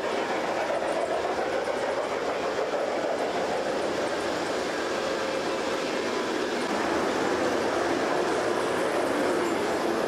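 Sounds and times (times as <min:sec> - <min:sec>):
model train wheels clattering: 0:00.0 - 0:10.0.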